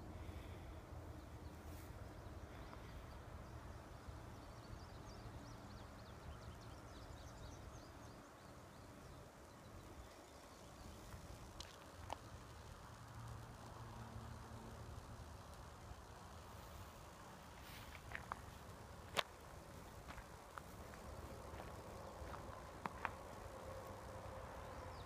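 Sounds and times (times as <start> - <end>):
low uneven rumble: 0.0 - 25.0.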